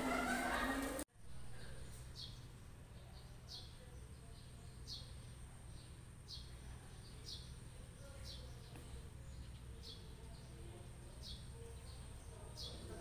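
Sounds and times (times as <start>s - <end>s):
bird chirping: 1.5s - 13.0s.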